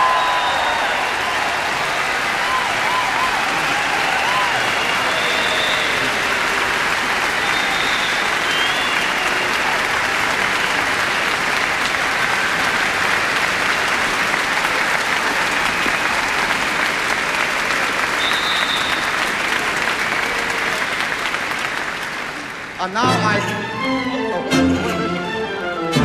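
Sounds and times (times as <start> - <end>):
concert audience applauding: 0.0 - 24.2.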